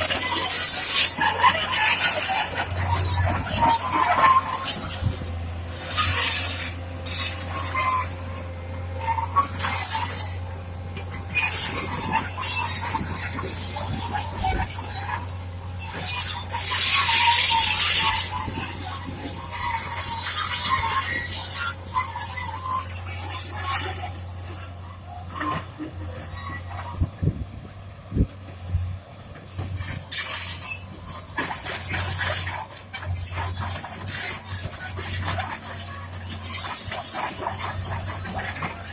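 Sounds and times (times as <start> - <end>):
metal tools scraping rock: 0.0 - 8.4, 9.0 - 27.2, 29.5 - 38.9.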